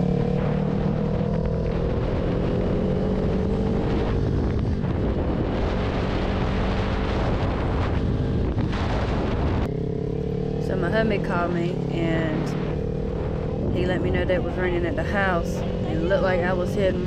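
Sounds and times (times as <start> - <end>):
motorcycle engine cruising: 0.0 - 17.0
wind noise on microphone: 0.3 - 9.9, 10.9 - 17.0.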